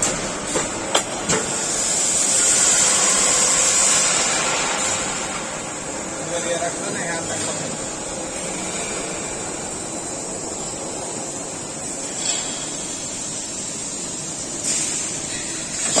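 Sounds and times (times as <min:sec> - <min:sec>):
machinery high hiss: 0:00.0 - 0:16.0.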